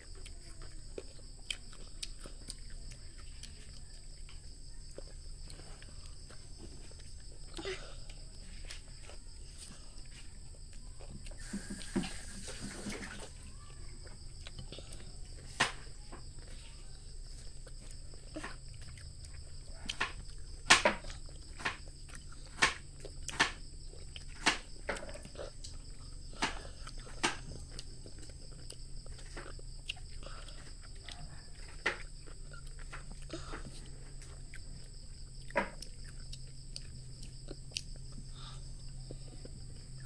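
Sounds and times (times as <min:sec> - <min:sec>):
child crunching raw cucumber: 0:00.0 - 0:40.0.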